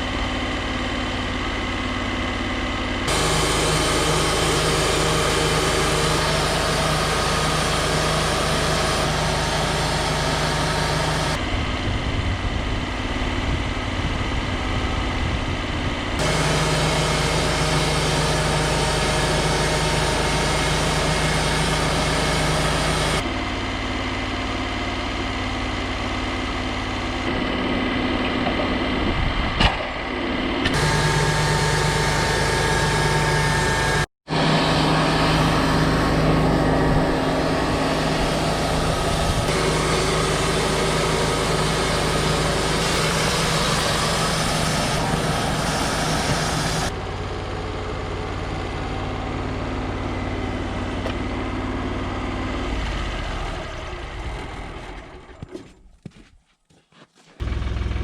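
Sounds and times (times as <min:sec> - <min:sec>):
sawmill engine running: 0:00.0 - 0:56.3, 0:57.2 - 0:58.0.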